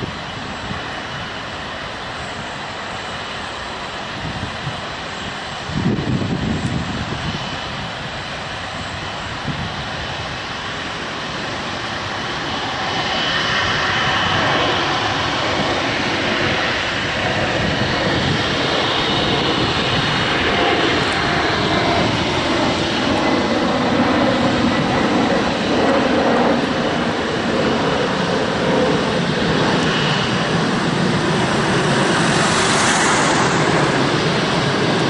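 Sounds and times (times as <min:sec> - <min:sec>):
jet engines rushing and whining: 0:00.0 - 0:35.0.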